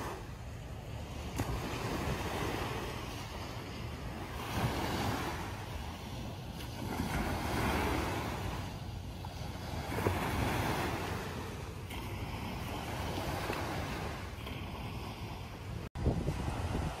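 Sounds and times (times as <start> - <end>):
small waves breaking on beach: 0.0 - 17.0
wind rumbling on microphone: 0.0 - 17.0.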